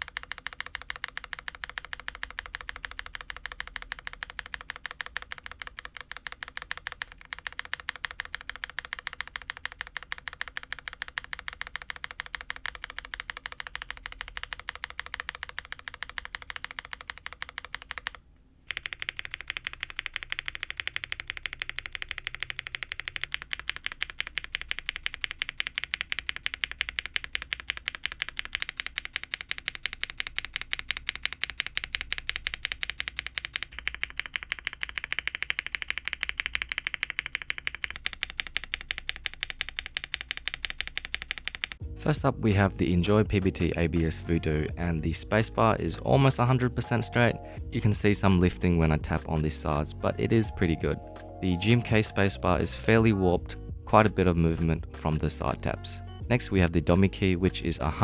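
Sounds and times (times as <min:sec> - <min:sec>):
keyboard keys clacking: 0:00.0 - 0:58.0.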